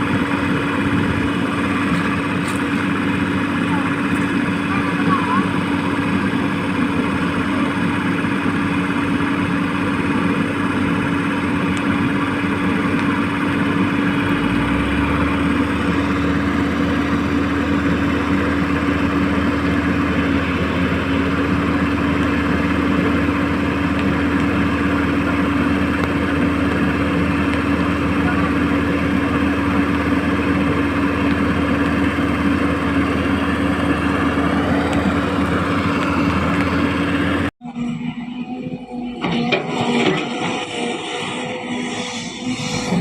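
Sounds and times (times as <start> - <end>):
deeper hum: 0.0 - 43.0.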